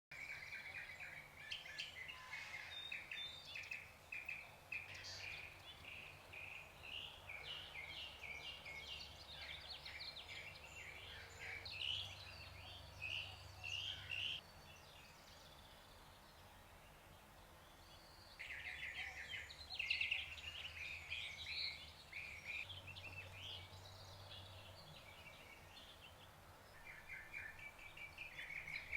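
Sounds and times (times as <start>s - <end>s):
small birds singing: 0.1s - 28.9s.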